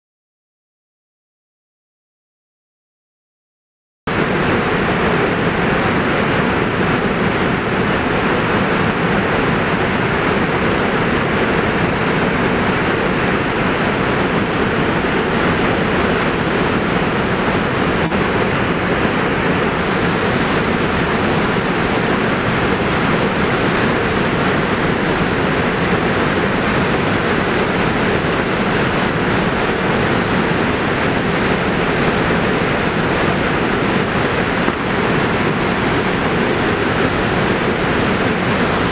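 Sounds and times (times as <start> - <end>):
water pouring over falls: 4.1 - 38.9.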